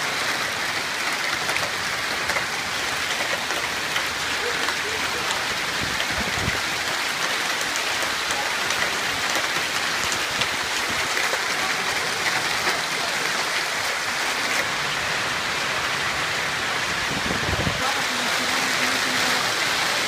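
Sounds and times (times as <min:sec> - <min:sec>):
hailstones ticking on cars: 0:00.0 - 0:20.0
heavy rain hissing: 0:00.0 - 0:20.0.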